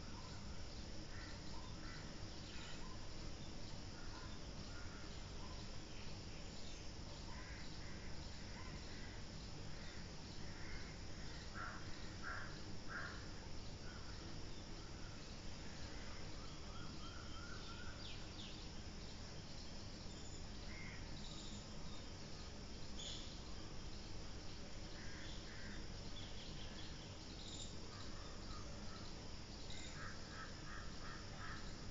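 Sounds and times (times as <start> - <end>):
faint low background hum: 0.0 - 31.9
insects chirping: 0.0 - 31.9.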